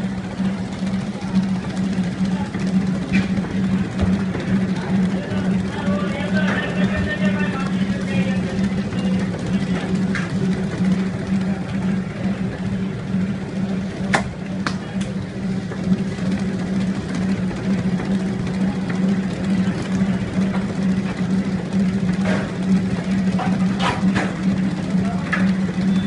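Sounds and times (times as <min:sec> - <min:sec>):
mixer motor humming: 0:00.0 - 0:26.0.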